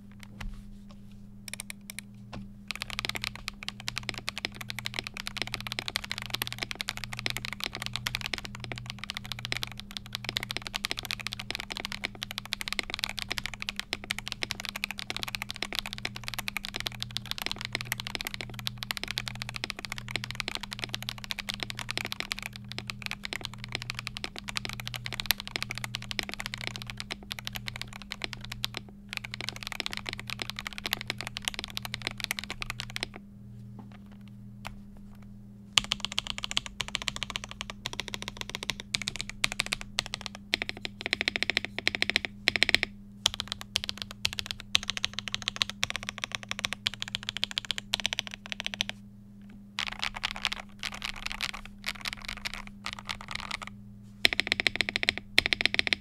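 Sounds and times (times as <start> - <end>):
mechanical keyboard typing: 1.5 - 2.1, 2.7 - 33.2, 33.9 - 34.8, 35.8 - 49.0, 49.8 - 56.0.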